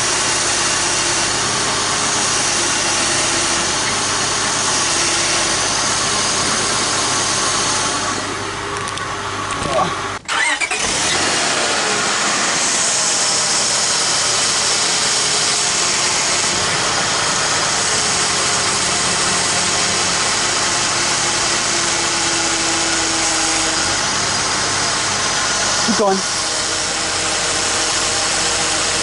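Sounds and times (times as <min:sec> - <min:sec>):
car engine idling: 0:00.0 - 0:29.0
power steering pump whining: 0:00.0 - 0:29.0.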